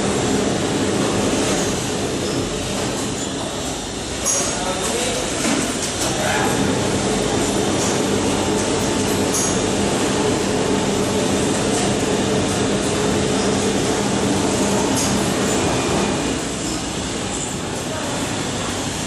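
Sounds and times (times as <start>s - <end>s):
factory machinery rumble: 0.0s - 19.0s.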